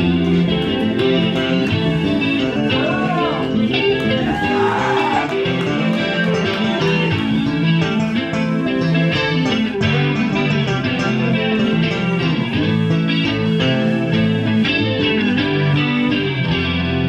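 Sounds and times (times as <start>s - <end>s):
bass guitar: 0.0s - 17.0s
electric guitar: 0.0s - 17.0s.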